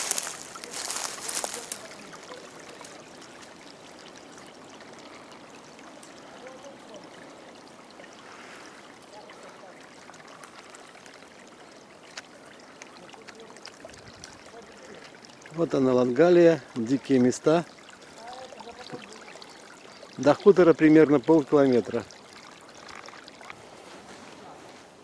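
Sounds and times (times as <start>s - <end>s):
small stream trickling: 0.0s - 25.0s.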